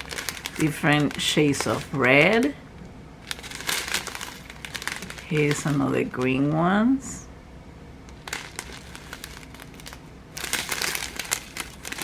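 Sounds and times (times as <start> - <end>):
plastic packaging crinkling: 0.0 - 2.6, 3.2 - 6.6, 8.1 - 12.0.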